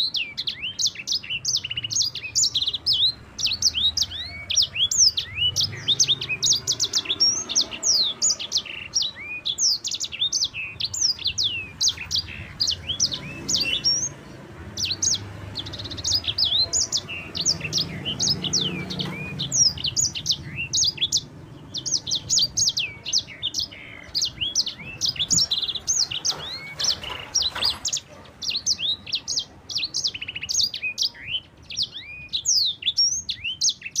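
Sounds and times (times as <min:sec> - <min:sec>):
finch singing whistled notes: 0:00.0 - 0:14.2, 0:14.8 - 0:34.0.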